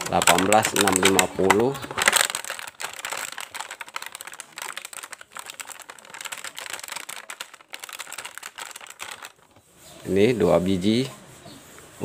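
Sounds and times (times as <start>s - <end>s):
plastic packaging crackling: 0.0s - 9.8s.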